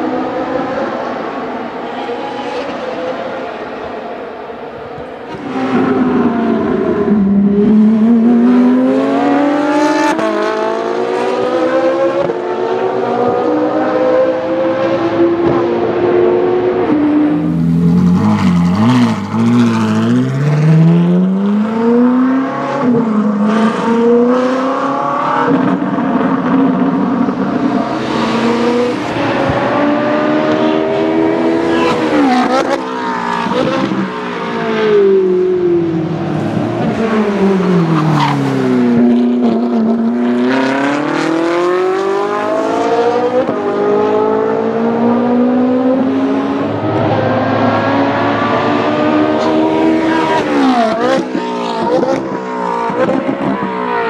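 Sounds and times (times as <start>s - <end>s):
race car engine revving: 5.3s - 54.0s.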